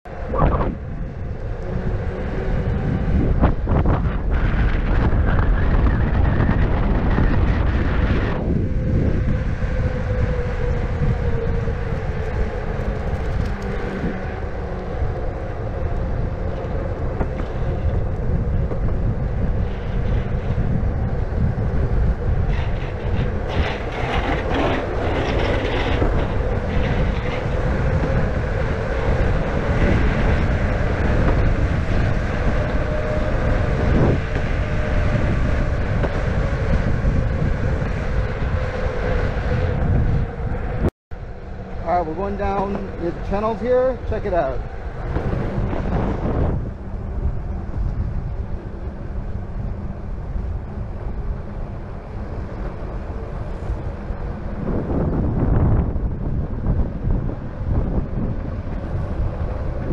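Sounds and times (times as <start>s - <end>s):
wind: 0.0s - 59.9s
skateboard wheels rumbling: 0.1s - 59.9s.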